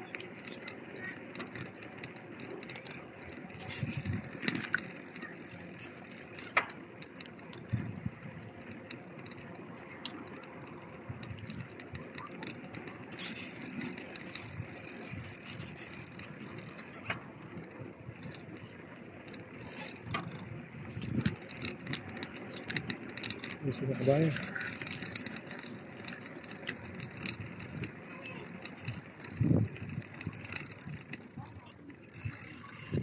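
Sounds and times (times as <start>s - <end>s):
bicycle rattles and clicks: 0.0s - 33.0s
bicycle tyres rolling: 0.0s - 33.0s
freewheel ticking: 0.0s - 33.0s.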